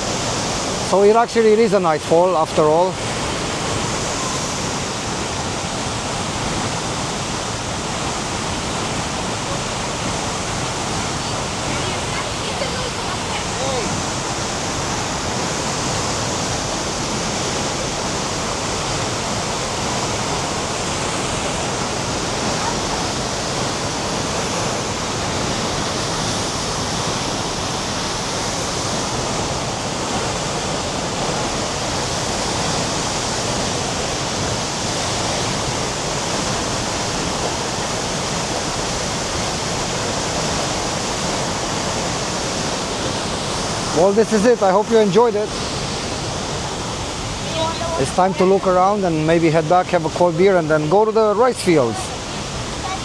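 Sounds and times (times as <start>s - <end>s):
waterfall crashing: 0.0s - 53.0s.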